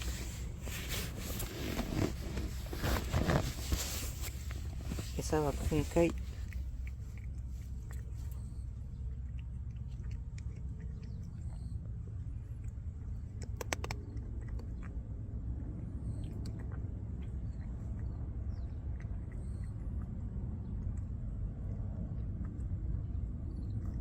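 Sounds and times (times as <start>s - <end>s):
cat chewing food: 0.0s - 24.0s
low background rumble: 0.0s - 24.0s.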